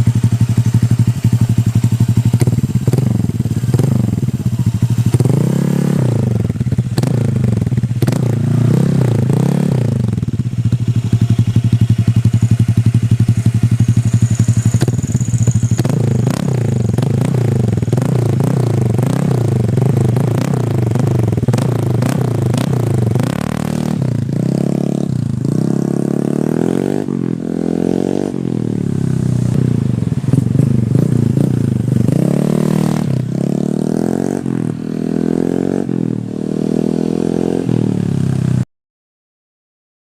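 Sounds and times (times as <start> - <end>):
scooter engine pulsing idle: 0.0 - 35.1
scooter engine revving: 0.0 - 38.6.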